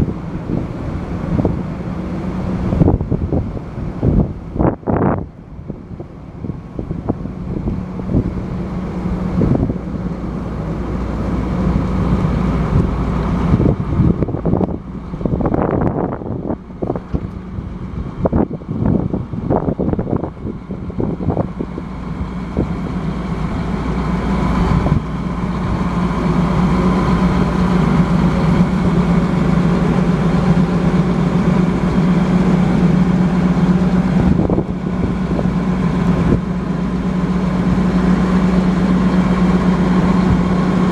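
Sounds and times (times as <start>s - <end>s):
diesel engine running: 0.0s - 40.9s
wind buffeting microphone: 0.0s - 40.9s.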